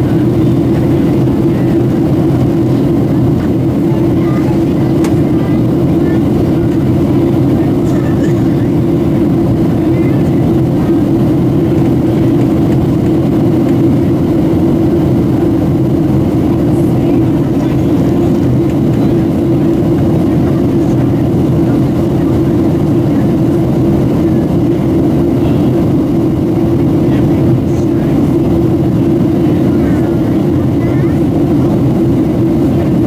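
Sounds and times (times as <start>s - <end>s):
air rushing along fuselage: 0.0s - 33.0s
jet engine hum: 0.0s - 33.0s.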